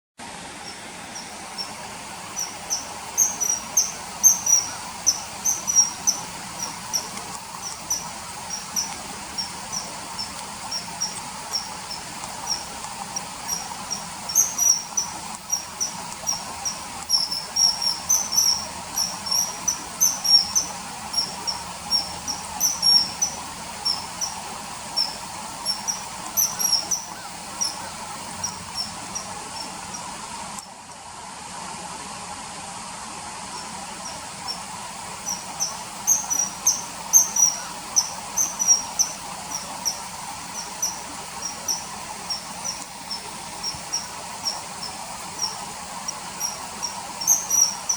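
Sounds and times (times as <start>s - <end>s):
faint steady hiss: 0.2s - 47.9s
kingfisher calling: 0.6s - 30.2s, 33.6s - 47.9s.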